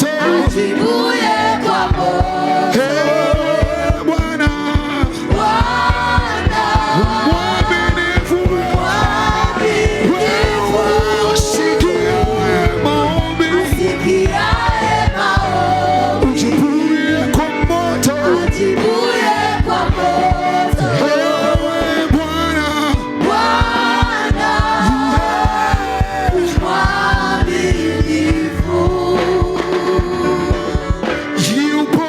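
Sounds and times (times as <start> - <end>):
band with steady drum beat: 0.0 - 32.0
singers singing: 0.0 - 32.0.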